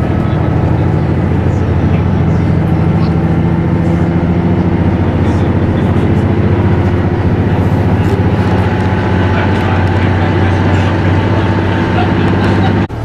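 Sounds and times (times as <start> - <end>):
diesel engine drone: 0.0 - 13.0
wheels rumbling on rails: 0.0 - 13.0.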